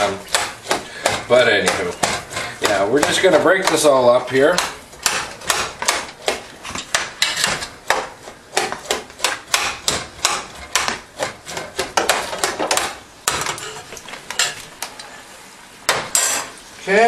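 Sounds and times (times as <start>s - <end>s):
metal spoon scraping a saucepan: 0.0s - 15.2s, 16.1s - 16.6s.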